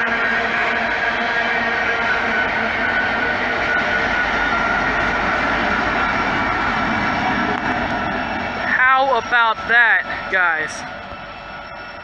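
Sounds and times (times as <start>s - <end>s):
diesel locomotive engines running: 0.0s - 12.0s
steady high tone: 0.0s - 12.0s
wheels on rail: 0.0s - 12.0s.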